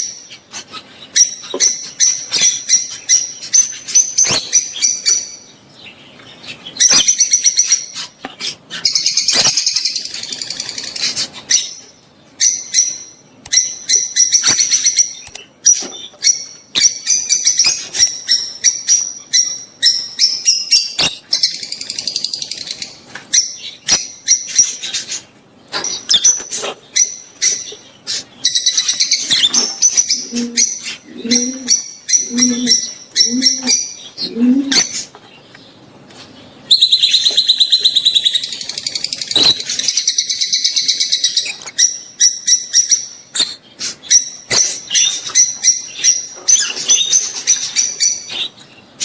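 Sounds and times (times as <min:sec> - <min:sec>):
lovebirds chirping and screeching: 0:00.0 - 0:49.0.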